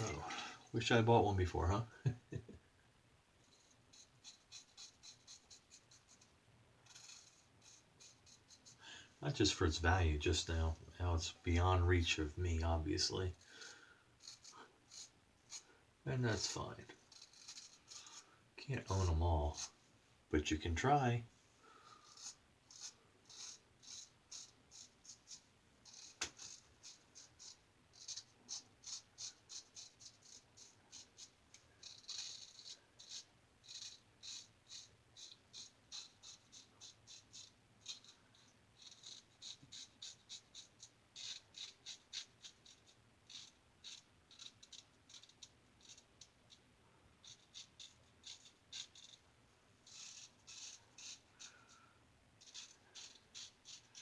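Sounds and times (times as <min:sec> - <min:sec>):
razor scraping whiskers: 0:00.0 - 0:00.6, 0:03.5 - 0:19.8, 0:20.4 - 0:54.0.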